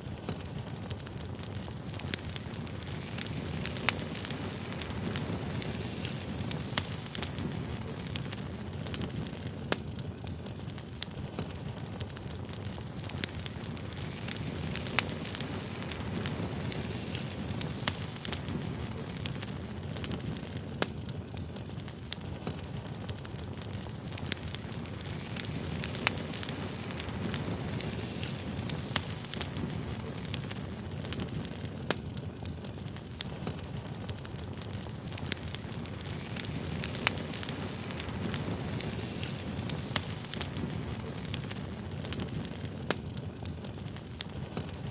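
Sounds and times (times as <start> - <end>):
firewood burning with crackles: 0.0 - 44.9.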